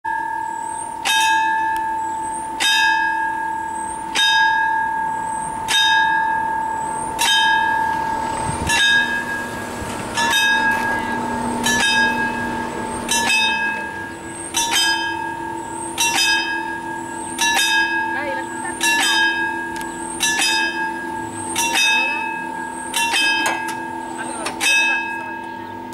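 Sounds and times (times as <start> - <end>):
level crossing bell ringing: 0.1 - 25.9.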